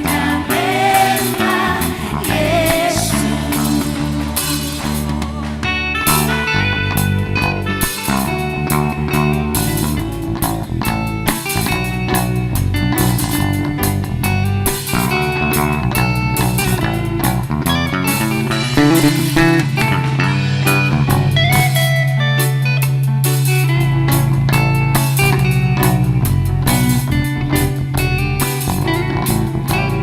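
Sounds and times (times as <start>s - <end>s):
bass: 0.0s - 30.0s
drums: 0.0s - 30.0s
guitar lines: 0.0s - 30.0s.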